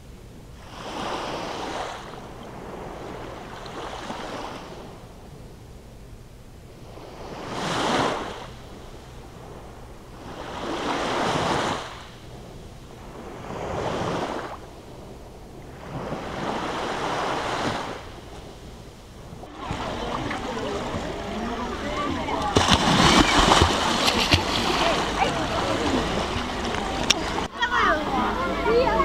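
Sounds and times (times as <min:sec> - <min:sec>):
small waves breaking on shore: 0:00.0 - 0:29.0.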